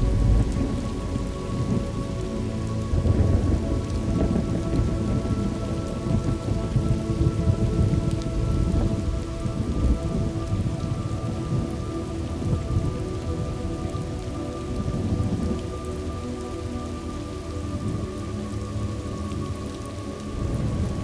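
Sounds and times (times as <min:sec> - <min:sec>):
low thunder rumble: 0:00.0 - 0:21.0
steady rain: 0:00.0 - 0:21.0.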